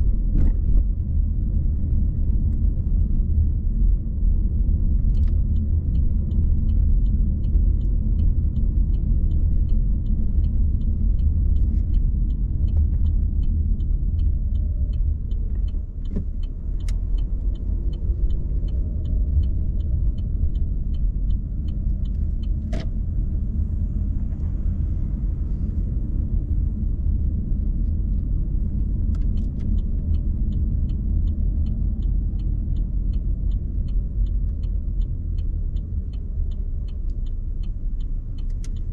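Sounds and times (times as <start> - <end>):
car engine and tyre rumble: 0.0 - 38.9
light even ticking: 2.3 - 38.9.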